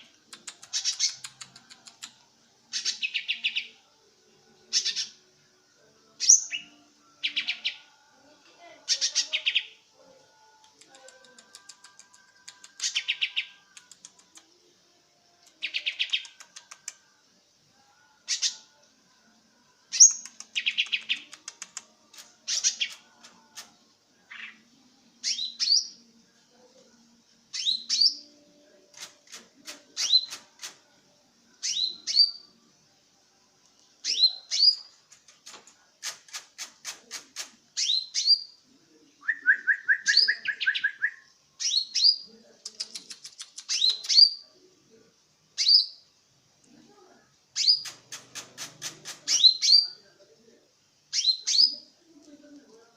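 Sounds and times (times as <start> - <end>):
songbird singing: 0.0 - 33.0, 33.6 - 46.8, 47.5 - 50.2, 51.0 - 52.4.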